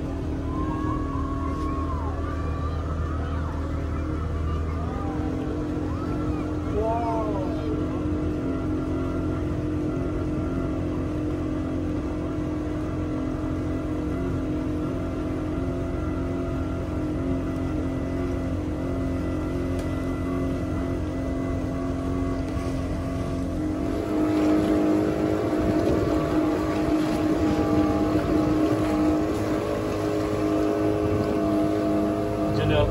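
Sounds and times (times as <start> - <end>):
boat engine running: 0.0 - 32.9
water rushing: 0.0 - 32.9
wind: 0.0 - 32.9.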